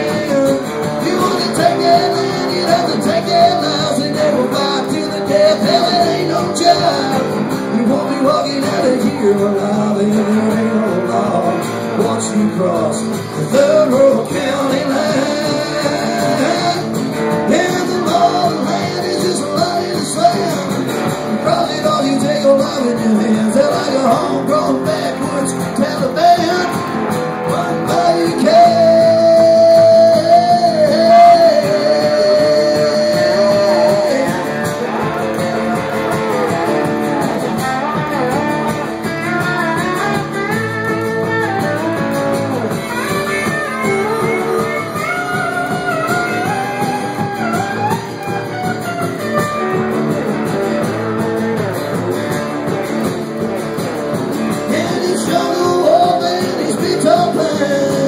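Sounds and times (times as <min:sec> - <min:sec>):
lap steel guitar sliding lead: 0:00.0 - 0:58.0
strummed acoustic guitar: 0:00.0 - 0:58.0.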